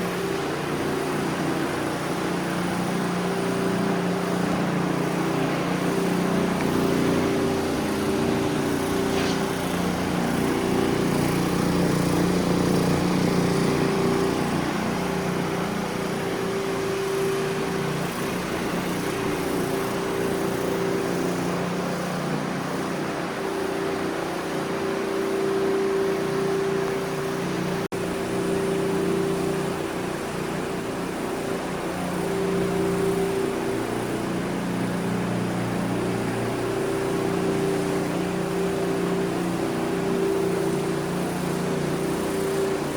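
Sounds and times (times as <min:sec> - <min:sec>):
floor scrubbing machine humming: 0:00.0 - 0:42.9.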